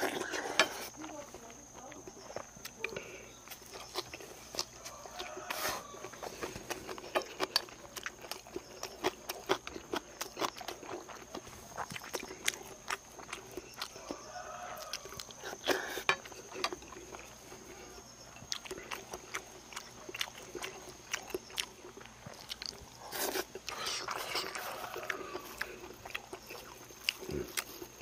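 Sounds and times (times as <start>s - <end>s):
chewing and biting: 0.0s - 28.0s.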